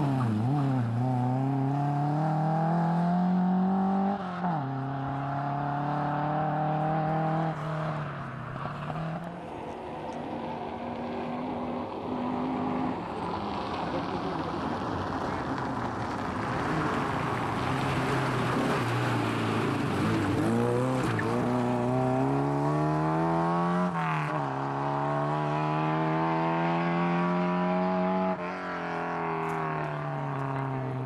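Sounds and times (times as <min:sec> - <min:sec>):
rally car engine accelerating: 0:00.0 - 0:07.6, 0:13.1 - 0:30.8.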